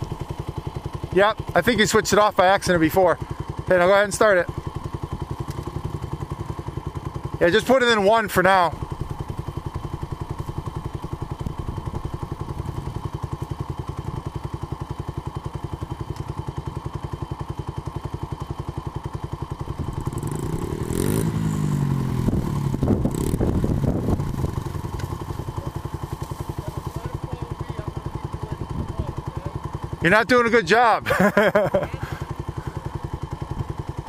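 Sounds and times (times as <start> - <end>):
dirt bike engine idling and revving: 0.0 - 34.0.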